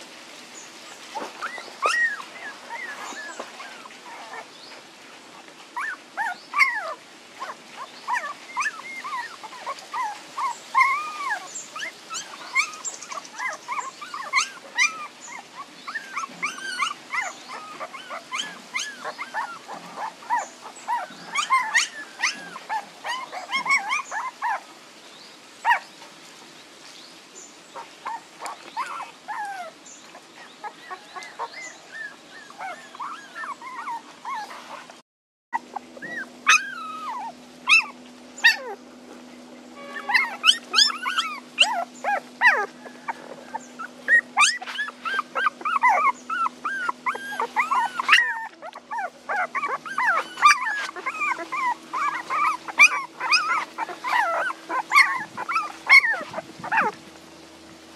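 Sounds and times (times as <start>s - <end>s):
puppies whimpering and crying: 0.9s - 24.8s, 25.6s - 26.0s, 27.8s - 35.0s, 35.6s - 57.9s.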